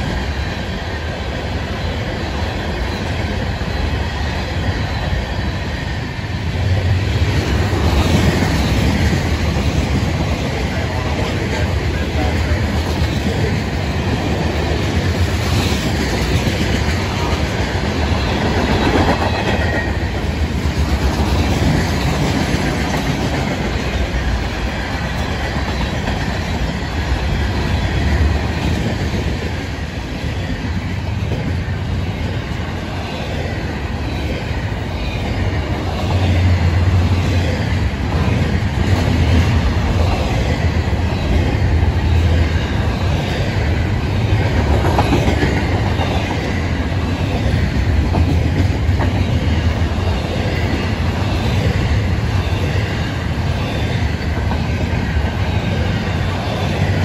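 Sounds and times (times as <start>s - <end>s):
freight train cars rumbling past: 0.0s - 57.0s.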